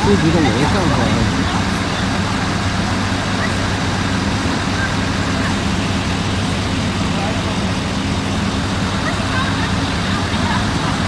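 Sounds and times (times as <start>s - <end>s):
fire engines running: 0.0s - 11.0s.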